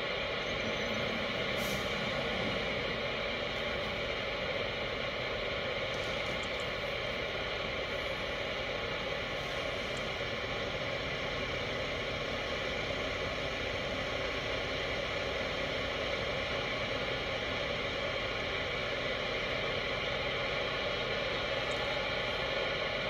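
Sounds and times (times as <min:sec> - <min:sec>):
road and engine noise in car cabin: 0:00.0 - 0:23.0.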